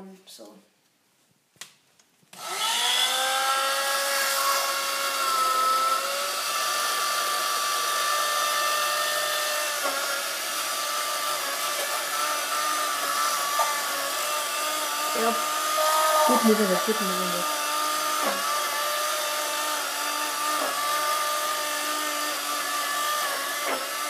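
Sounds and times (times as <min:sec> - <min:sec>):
electric hand blender whining: 0:02.3 - 0:24.0.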